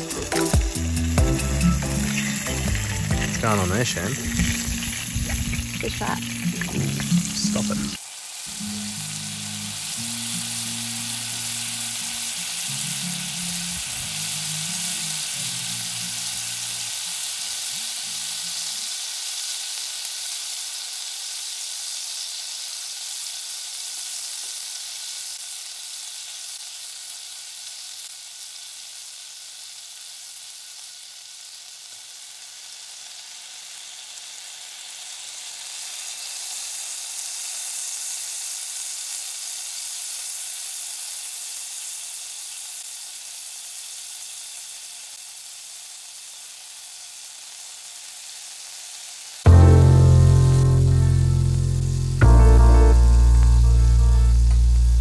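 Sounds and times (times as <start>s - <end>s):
hot fat sizzling in a frying pan: 0.0s - 55.0s.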